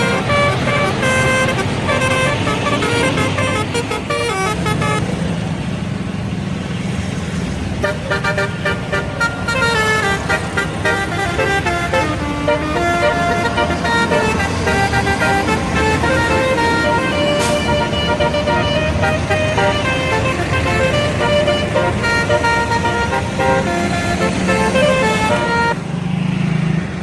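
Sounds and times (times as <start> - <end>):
bus trumpet horns playing tune: 0.0 - 5.2, 7.8 - 25.8
bus engine running: 0.0 - 27.0.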